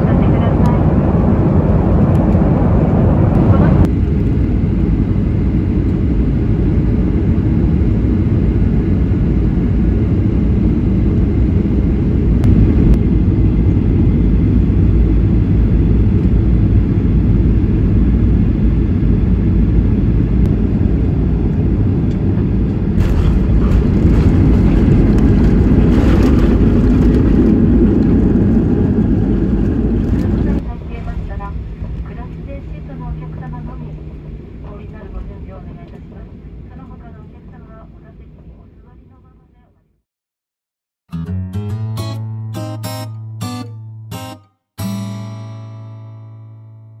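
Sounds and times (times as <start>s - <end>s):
jet cabin engine rumble: 0.0s - 39.8s.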